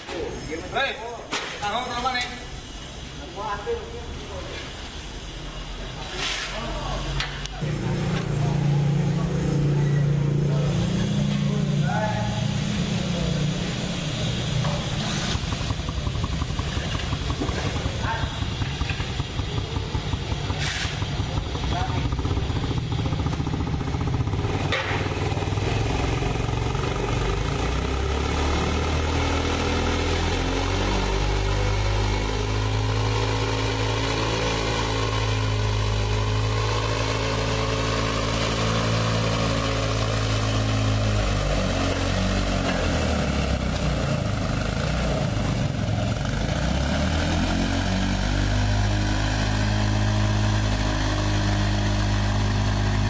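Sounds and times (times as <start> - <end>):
hoist engine running: 6.8 - 53.0.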